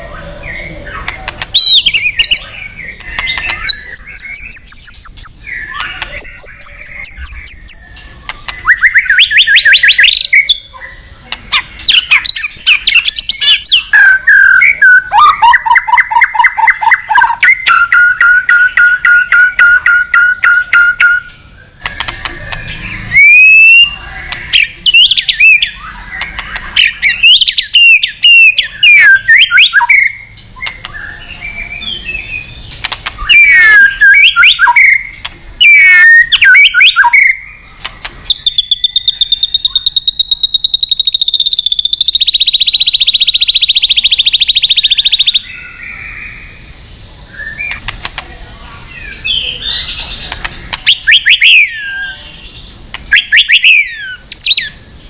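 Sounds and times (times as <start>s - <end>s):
bird singing whistled phrases: 0.5s - 11.0s, 11.6s - 21.7s, 22.7s - 32.6s, 33.2s - 37.6s, 38.3s - 46.5s, 48.9s - 54.8s.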